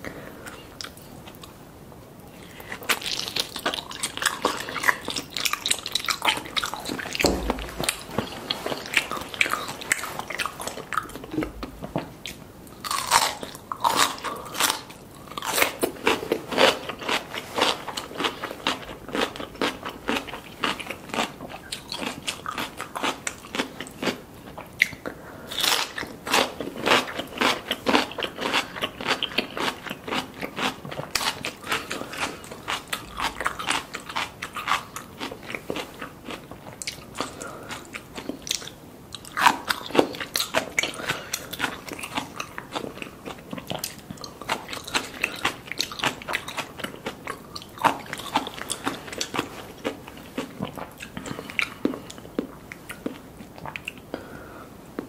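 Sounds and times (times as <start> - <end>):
crunching and chewing: 2.3 - 54.4.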